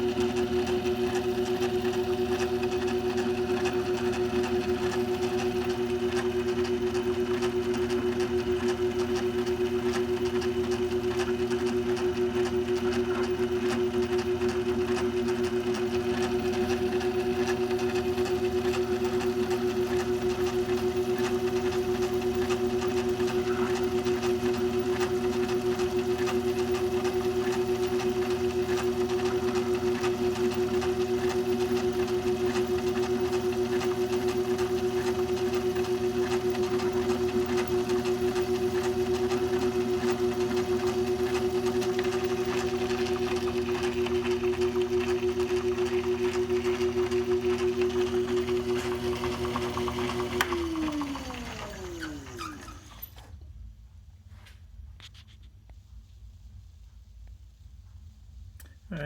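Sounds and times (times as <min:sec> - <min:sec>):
lathe running with fluttering hum: 0:00.0 - 0:53.3.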